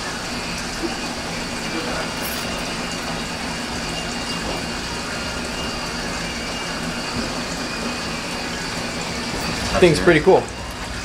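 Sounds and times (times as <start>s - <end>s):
machinery hum with rushing hiss: 0.0s - 11.0s.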